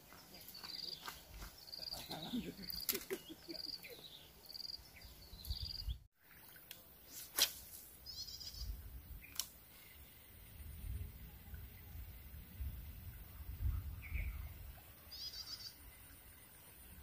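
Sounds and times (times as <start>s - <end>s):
faint wetland ambience: 0.0s - 17.0s.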